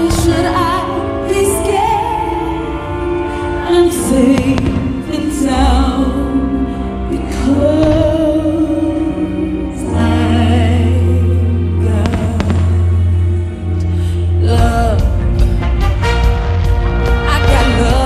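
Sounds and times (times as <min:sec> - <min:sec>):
woman singing with instrumental backing: 0:00.0 - 0:15.8, 0:17.1 - 0:18.0.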